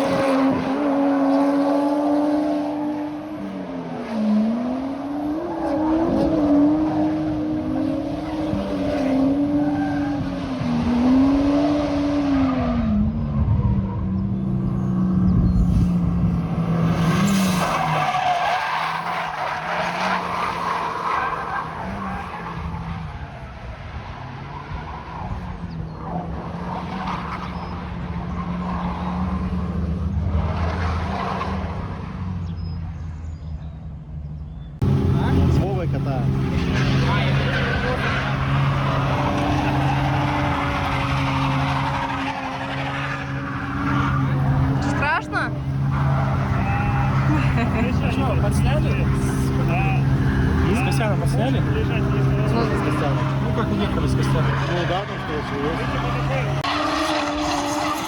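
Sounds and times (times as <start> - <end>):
car engine revving: 0.0 - 32.8, 34.8 - 58.0
tyres skidding: 0.0 - 58.0.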